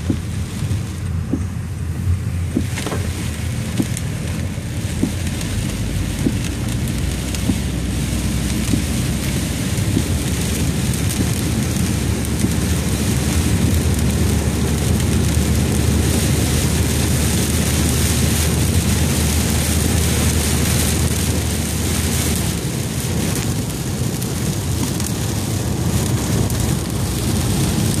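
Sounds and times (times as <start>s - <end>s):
low road rumble: 0.0s - 28.0s
rain and tyre spray hiss: 0.0s - 28.0s.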